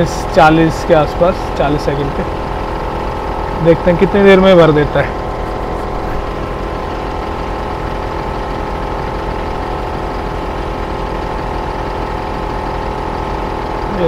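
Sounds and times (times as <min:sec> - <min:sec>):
portable air compressor running: 0:00.0 - 0:14.0.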